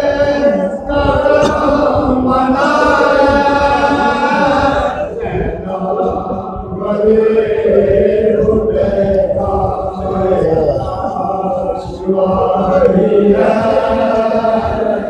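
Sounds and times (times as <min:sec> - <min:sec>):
men chanting a lament in unison: 0:00.0 - 0:15.0.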